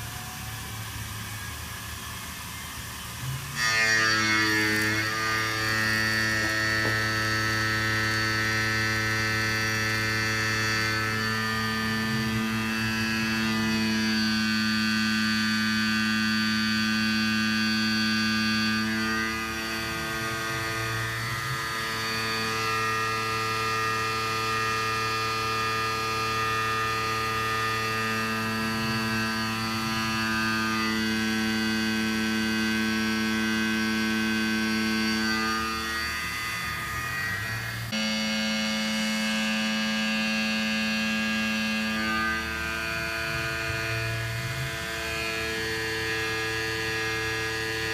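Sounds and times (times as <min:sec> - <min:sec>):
milling machine hum and whine: 0:00.0 - 0:47.9.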